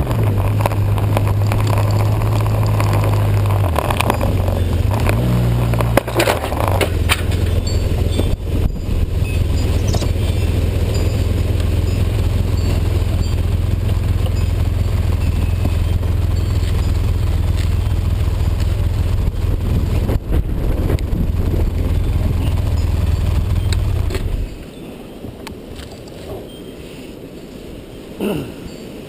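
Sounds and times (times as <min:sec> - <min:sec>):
snowmobile engine running: 0:00.0 - 0:24.6.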